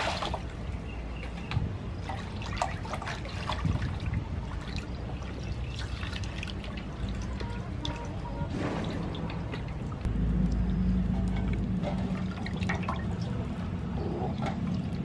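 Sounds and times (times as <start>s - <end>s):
water splashing in metal basin: 0.0s - 0.7s, 1.3s - 15.0s.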